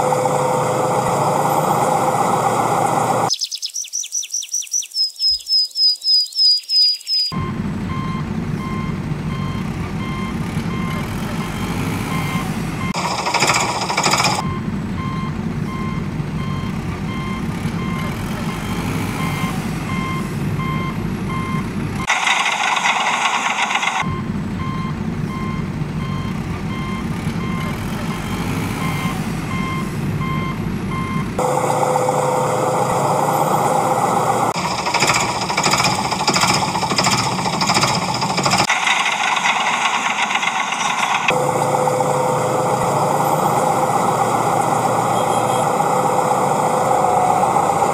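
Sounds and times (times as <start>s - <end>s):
heavy vehicle engine running: 0.0s - 3.3s, 7.3s - 47.9s
reversing alarm beeping: 6.4s - 47.9s.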